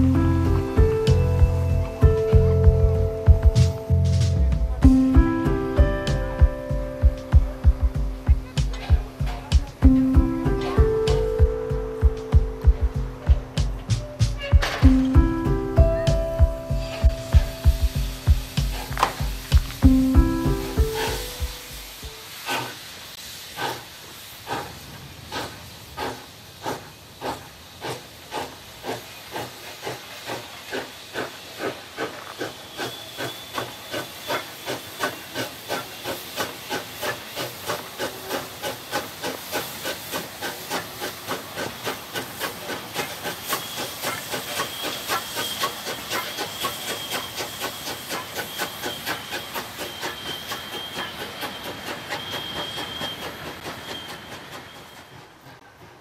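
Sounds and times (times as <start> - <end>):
steam hissing: 0.0 - 56.0
steam locomotive exhaust chuffs: 0.0 - 56.0.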